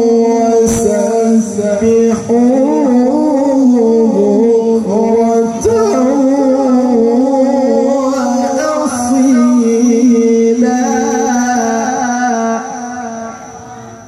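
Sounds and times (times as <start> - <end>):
man chanting melodic recitation: 0.0 - 14.0.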